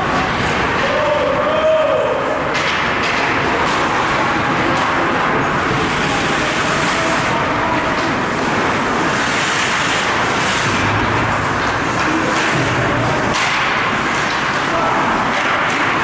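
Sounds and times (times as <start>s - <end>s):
ice hockey arena din: 0.0s - 16.0s.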